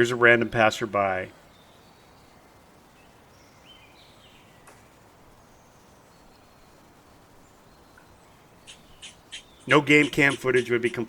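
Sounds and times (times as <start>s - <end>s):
distant birds calling: 0.0s - 11.0s
steady hiss: 0.0s - 11.0s.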